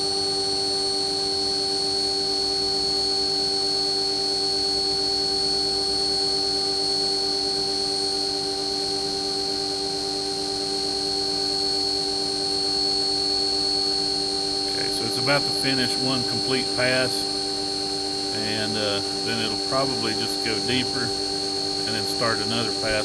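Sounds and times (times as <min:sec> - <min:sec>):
milling machine whine: 0:00.0 - 0:23.0.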